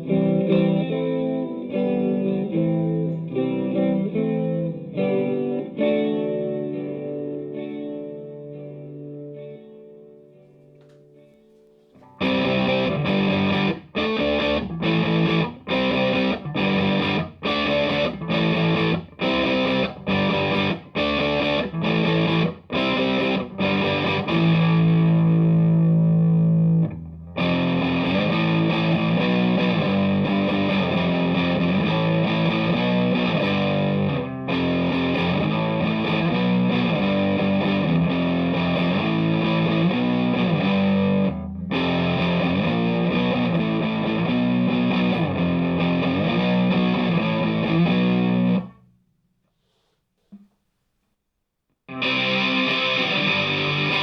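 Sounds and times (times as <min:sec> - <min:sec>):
distorted electric guitar: 0:00.0 - 0:48.9, 0:51.9 - 0:54.0.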